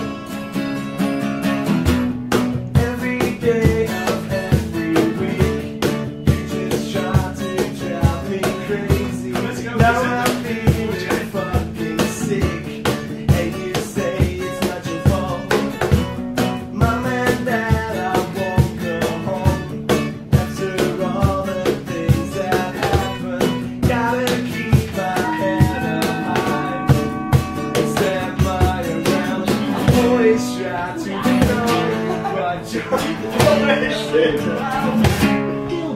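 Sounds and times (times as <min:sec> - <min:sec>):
cajon beat: 0:00.0 - 0:35.9
strummed acoustic guitars: 0:00.0 - 0:35.9.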